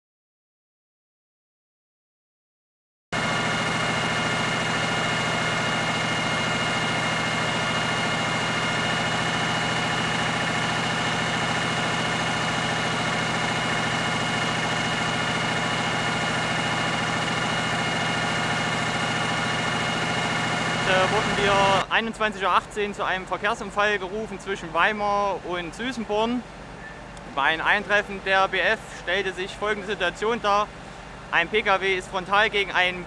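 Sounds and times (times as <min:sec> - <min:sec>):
engine idling: 0:03.2 - 0:33.0.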